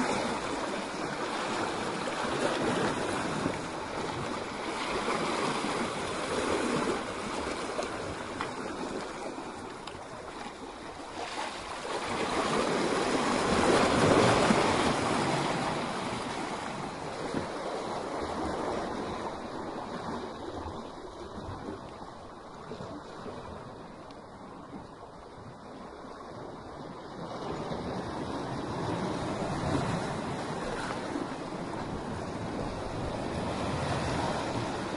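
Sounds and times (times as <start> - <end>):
sea waves breaking on rocks: 0.0 - 25.0, 25.6 - 34.9.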